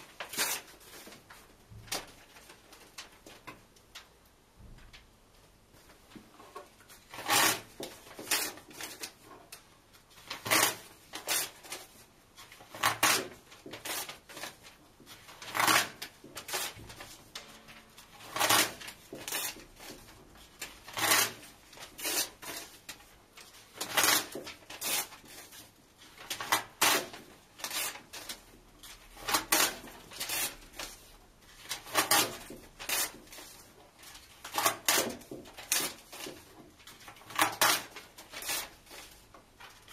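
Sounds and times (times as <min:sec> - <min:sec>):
paper rustling: 0:00.0 - 0:04.1, 0:05.8 - 0:39.9
paper tearing: 0:00.1 - 0:03.2, 0:07.1 - 0:09.2, 0:10.2 - 0:39.9.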